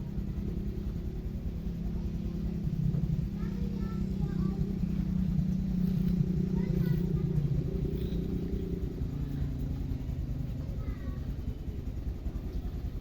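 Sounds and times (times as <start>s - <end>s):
continuous low rumble: 0.0s - 13.0s
motor humming: 0.0s - 13.0s.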